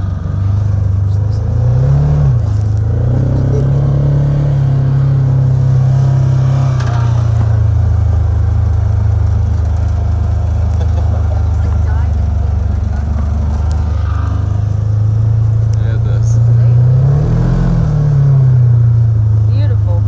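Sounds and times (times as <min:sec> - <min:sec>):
small vehicle engine: 0:00.0 - 0:20.0.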